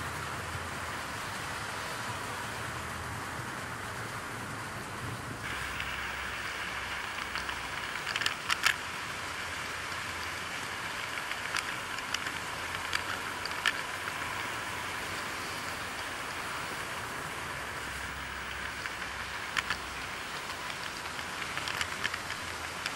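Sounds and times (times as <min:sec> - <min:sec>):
model train rolling on track: 0:00.0 - 0:22.9
wheels clicking over rail joints: 0:00.0 - 0:22.9.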